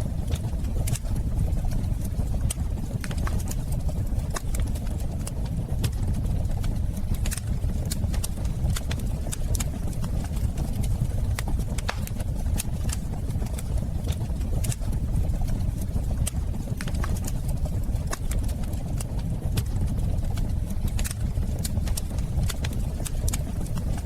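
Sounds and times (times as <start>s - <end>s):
fire crackling and popping: 0.0s - 24.0s
wood fire flames roaring: 0.0s - 24.0s.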